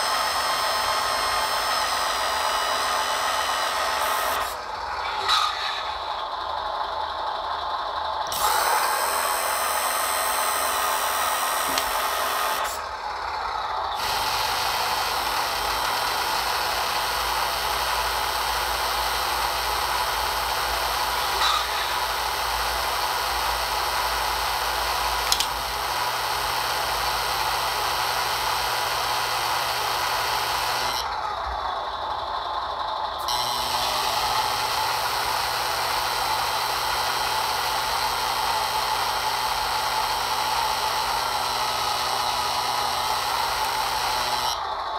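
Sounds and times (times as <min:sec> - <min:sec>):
electric pump whining: 0:00.0 - 0:44.9.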